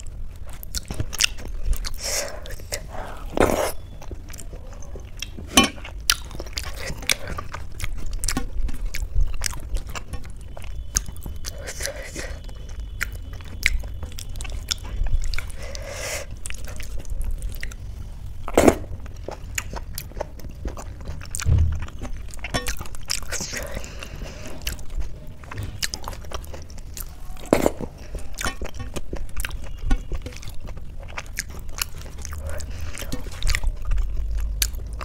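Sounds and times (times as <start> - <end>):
chewing and wet mouth clicks: 0.0 - 17.8, 19.1 - 35.0.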